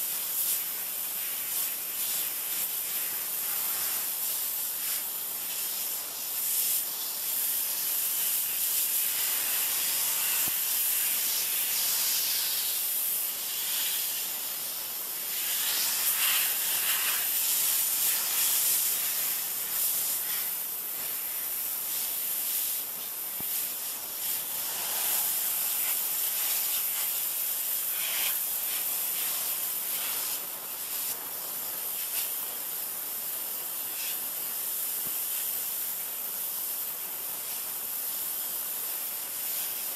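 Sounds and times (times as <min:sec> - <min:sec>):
pressure washer spraying: 0:00.1 - 0:39.9.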